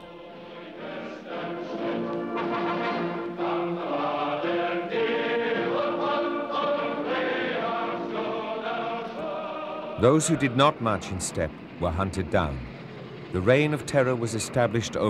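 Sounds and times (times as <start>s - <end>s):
choir singing with music: 0.0s - 15.0s.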